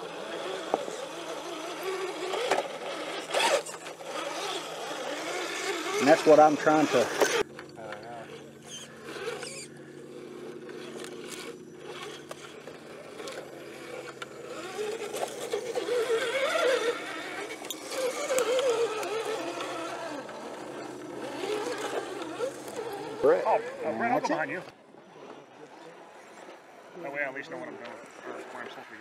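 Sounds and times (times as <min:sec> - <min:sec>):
electric motor and gearbox whining: 0:00.0 - 0:29.0.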